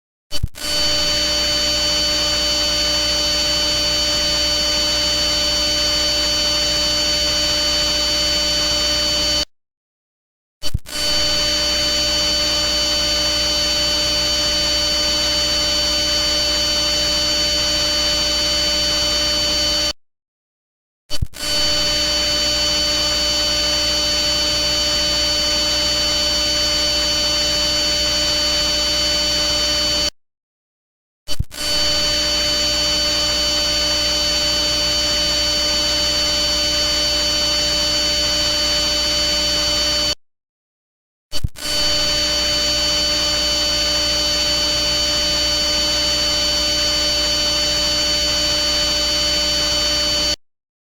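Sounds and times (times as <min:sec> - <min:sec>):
electronic buzz: 0:00.3 - 0:09.5, 0:10.6 - 0:20.0, 0:21.1 - 0:30.2, 0:31.3 - 0:40.2, 0:41.4 - 0:50.4.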